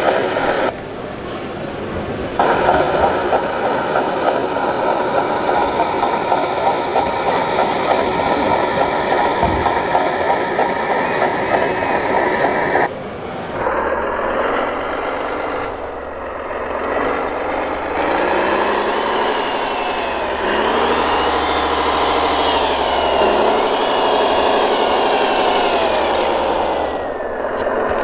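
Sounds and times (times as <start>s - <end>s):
steady low hum: 0.0s - 28.0s
model vehicle motor whine: 2.4s - 12.9s, 13.6s - 28.0s.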